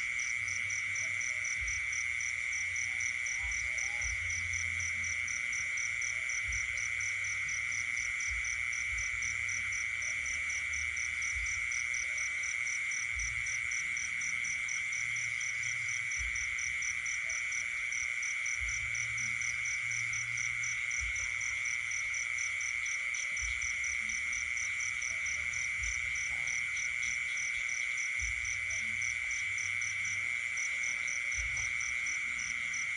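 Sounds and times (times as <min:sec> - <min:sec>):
frogs calling: 0:00.0 - 0:32.9
steady insect trill: 0:00.0 - 0:32.9.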